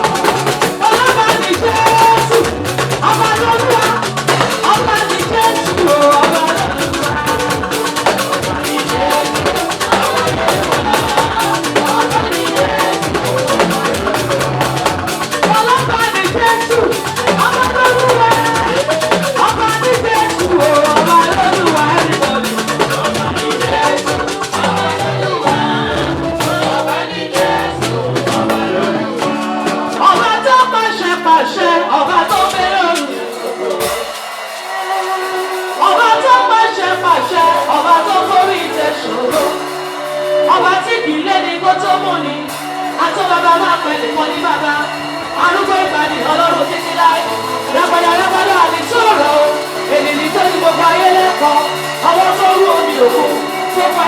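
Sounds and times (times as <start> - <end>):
drum kit and percussion: 0.0 - 54.0
gospel band playing: 0.0 - 54.0
people singing: 0.0 - 54.0.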